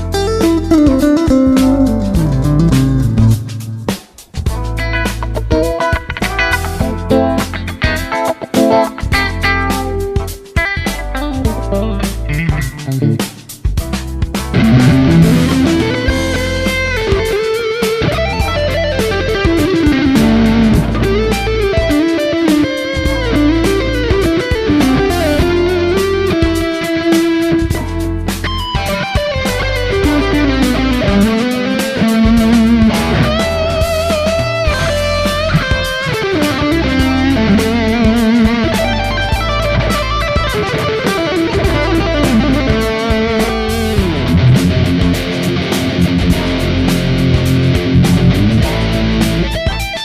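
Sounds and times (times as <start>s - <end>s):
bass: 0.0s - 8.1s, 9.0s - 17.4s, 18.0s - 22.0s, 23.0s - 26.7s, 27.6s - 31.4s, 32.1s - 40.6s, 41.5s - 50.0s
drums: 0.0s - 50.0s
electric guitar lead melody: 0.0s - 50.0s.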